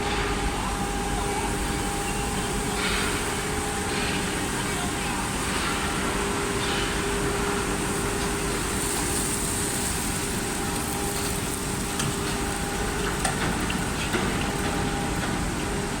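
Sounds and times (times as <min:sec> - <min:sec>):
induction furnace humming: 0:00.0 - 0:16.0.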